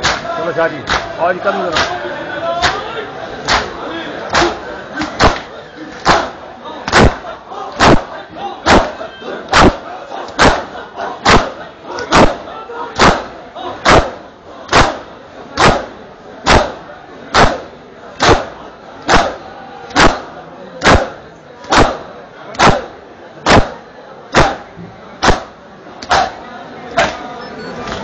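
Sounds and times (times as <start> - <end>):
hands slapping chests in unison: 0.0 - 0.3, 0.9 - 2.0, 2.6 - 12.4, 13.0 - 15.0, 15.6 - 17.6, 18.2 - 24.6, 25.2 - 26.4, 27.0 - 27.2.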